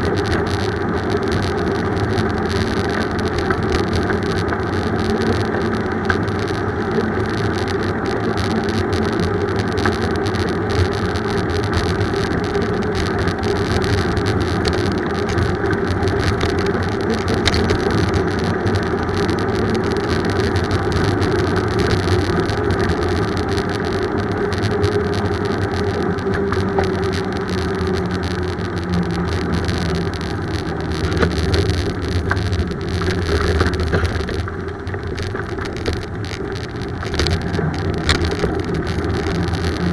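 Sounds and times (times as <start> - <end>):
bicycle road and wind noise: 0.0 - 39.9.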